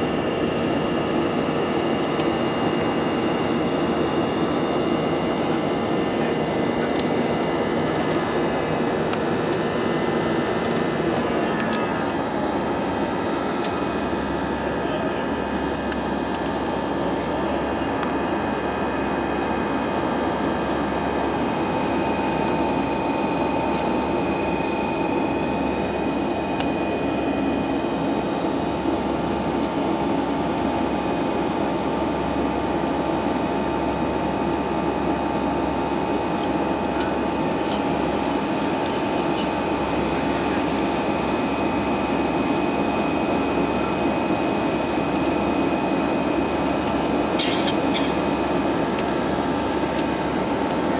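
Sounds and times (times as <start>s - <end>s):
jet engine cabin drone: 0.0s - 50.9s
thin steady whine: 0.0s - 50.9s.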